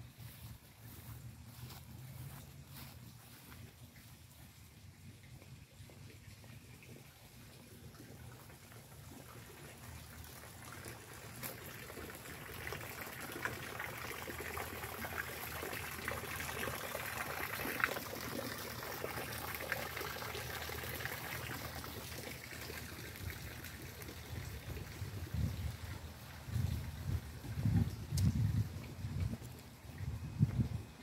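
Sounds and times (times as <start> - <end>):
water trickling into a pond: 0.0 - 31.0.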